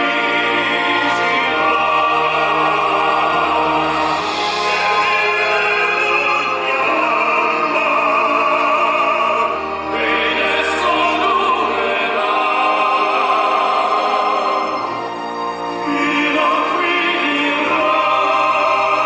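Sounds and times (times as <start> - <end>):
orchestral accompaniment: 0.0 - 19.0
tenor voices singing opera: 0.0 - 19.0.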